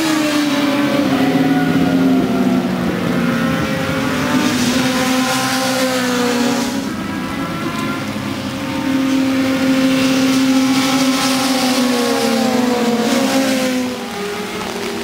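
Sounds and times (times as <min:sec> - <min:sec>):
motorcycles passing at high revs: 0:00.0 - 0:15.0.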